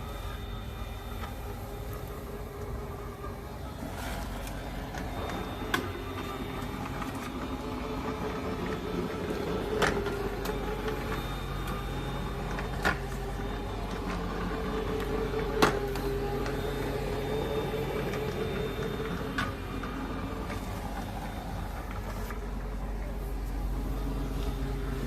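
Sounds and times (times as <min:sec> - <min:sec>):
robot vacuum motor hum: 0:00.0 - 0:25.0.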